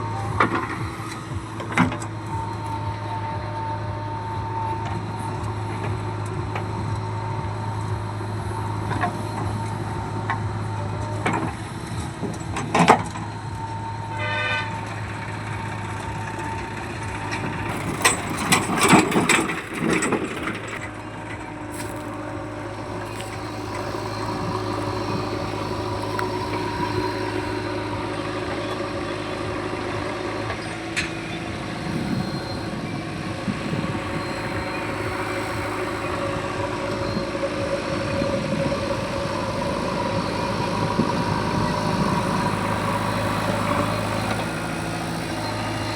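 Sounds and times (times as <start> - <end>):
diesel engine running: 0.0 - 45.9
pulsing horn: 0.0 - 45.9.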